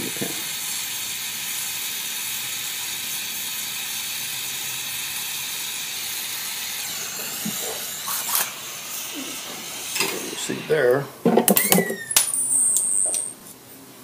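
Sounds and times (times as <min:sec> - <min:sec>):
welding torch flame hissing: 0:00.0 - 0:13.2.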